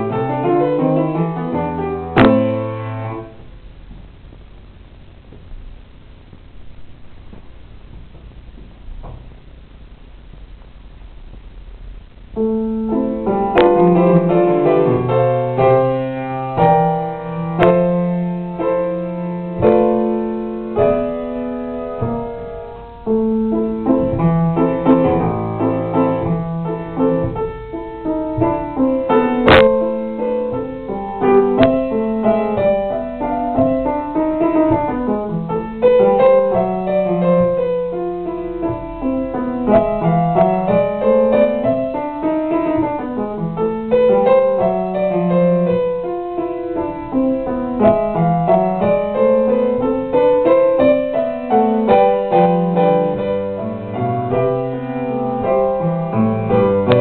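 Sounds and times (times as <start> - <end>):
grand piano playing: 0.0 - 4.4, 5.0 - 57.0.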